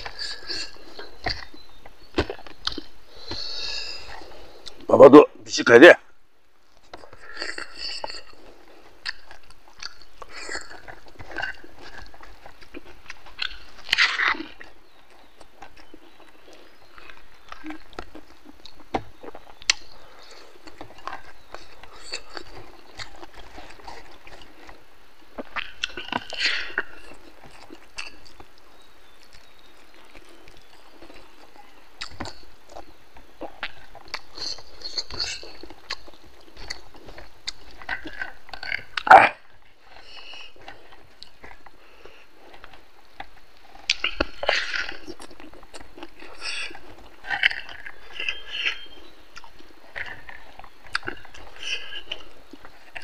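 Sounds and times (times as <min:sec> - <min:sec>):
wet chewing and lip-smacking: 0:00.0 - 0:04.9, 0:06.6 - 0:53.0.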